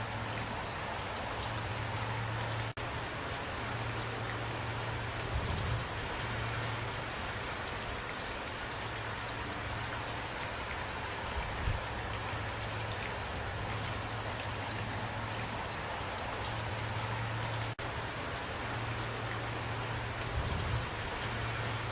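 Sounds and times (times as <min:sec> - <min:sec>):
rain falling: 0:00.0 - 0:21.9.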